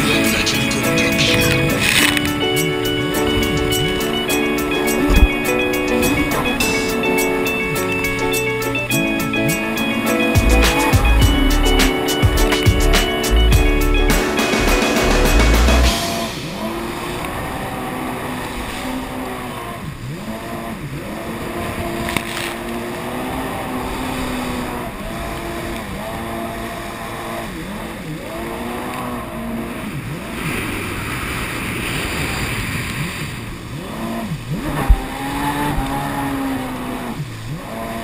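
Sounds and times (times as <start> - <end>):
watercraft engine revving: 0.0 - 38.0.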